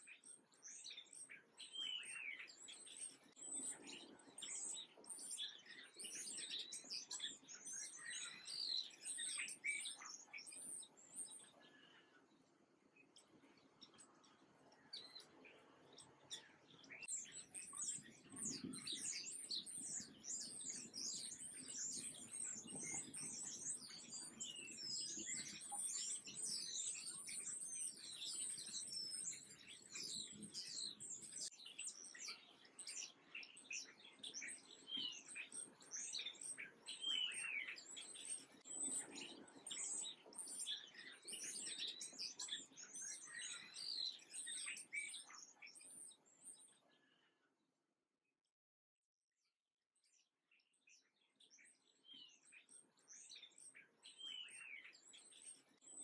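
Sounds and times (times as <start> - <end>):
songbirds chirping: 0.0 - 47.5, 50.0 - 56.0.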